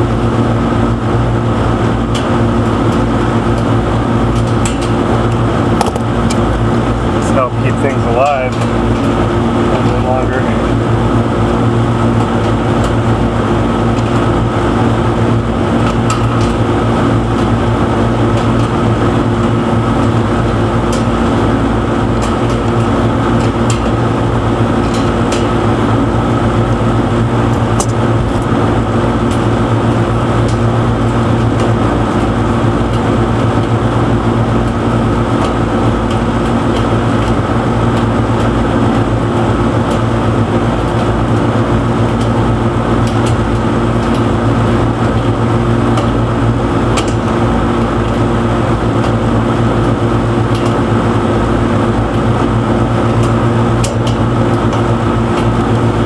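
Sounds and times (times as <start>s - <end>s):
steady machinery hum: 0.0s - 56.0s.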